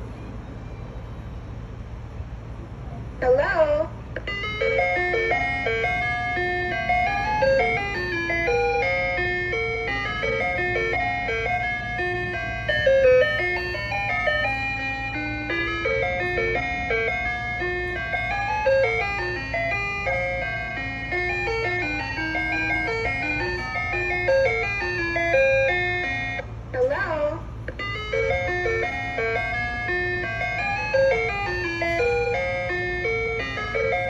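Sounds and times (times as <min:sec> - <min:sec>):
ice cream truck chime jingle: 0:00.0 - 0:02.3, 0:03.2 - 0:34.0.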